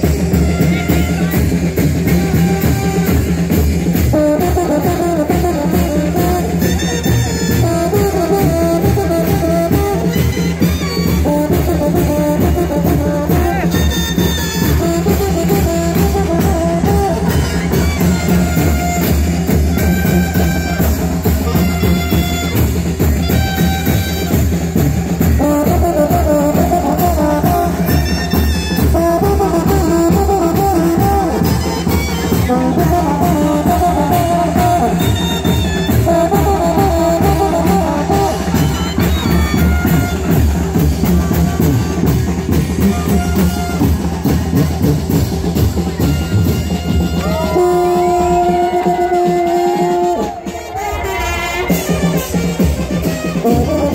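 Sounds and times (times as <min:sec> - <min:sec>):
brass band music: 0:00.0 - 0:53.9
steady drumbeat: 0:00.0 - 0:53.9.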